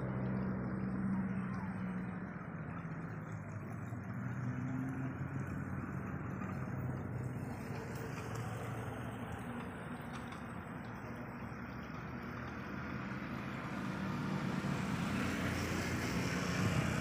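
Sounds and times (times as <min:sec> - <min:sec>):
low motor hum: 0:00.0 - 0:17.0
outdoor noise: 0:00.0 - 0:17.0.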